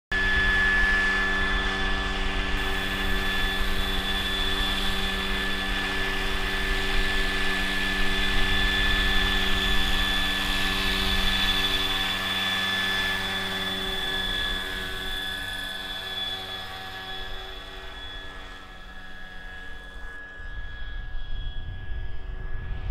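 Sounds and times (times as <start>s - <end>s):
model helicopter rotor whine: 0.1s - 22.9s.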